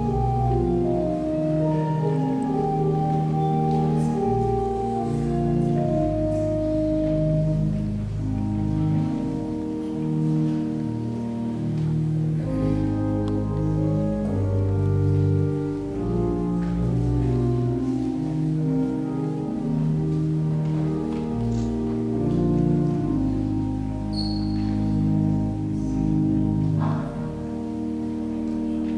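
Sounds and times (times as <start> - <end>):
slow instrumental church music: 0.0 - 28.9.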